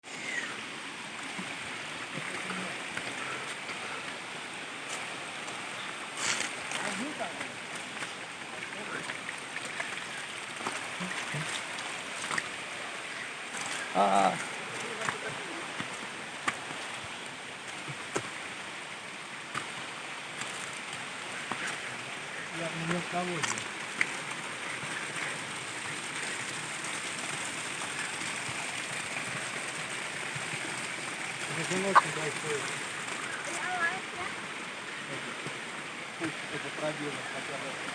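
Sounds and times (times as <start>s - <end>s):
flowing water rushing: 0.0s - 37.9s.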